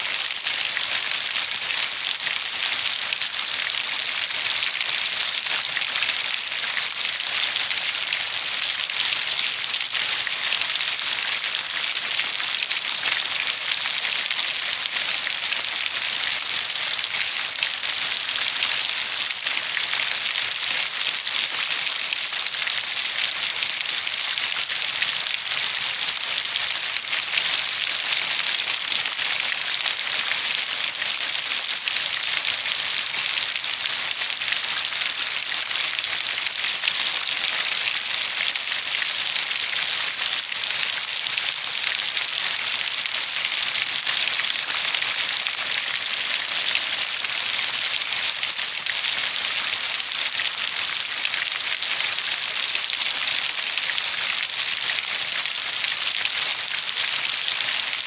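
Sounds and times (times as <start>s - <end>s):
rain pattering on a surface: 0.1s - 58.0s.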